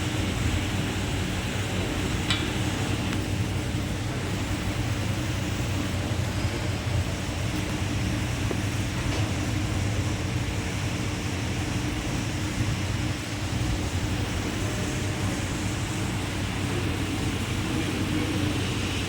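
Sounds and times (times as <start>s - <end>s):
industrial machinery humming: 0.0s - 19.0s.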